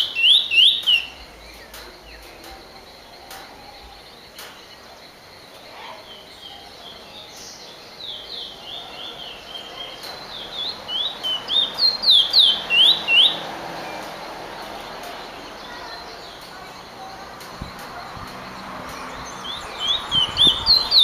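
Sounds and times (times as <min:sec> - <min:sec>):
finch singing: 0:00.0 - 0:21.0.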